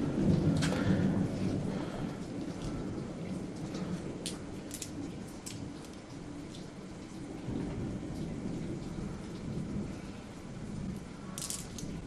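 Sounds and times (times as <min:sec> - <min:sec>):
low rumble of thunder: 0:00.0 - 0:12.0
steady rain: 0:00.0 - 0:12.0.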